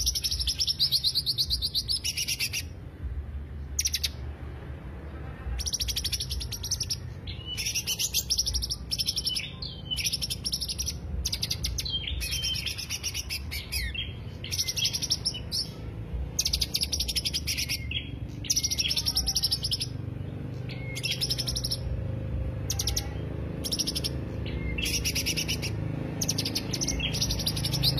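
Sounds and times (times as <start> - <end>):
bird singing trilled phrases: 0.0 - 2.8, 3.7 - 4.2, 5.6 - 27.9.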